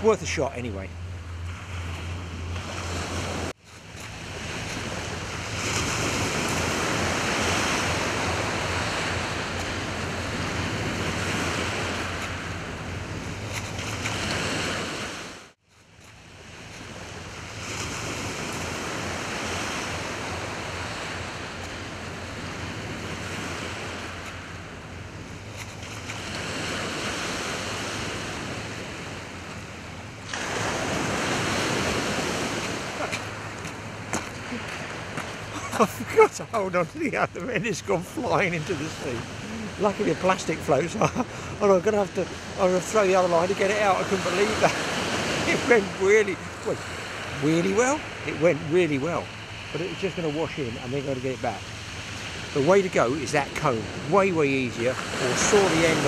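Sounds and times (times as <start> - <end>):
surf washing onto shingle beach: 1.5 - 15.6, 16.4 - 56.0.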